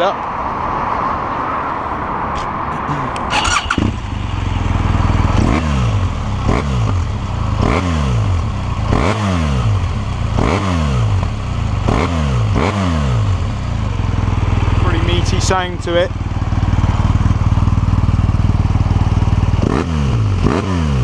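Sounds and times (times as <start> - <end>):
motorcycle engine revving: 2.9 - 21.0
motorcycle engine starting: 3.2 - 21.0.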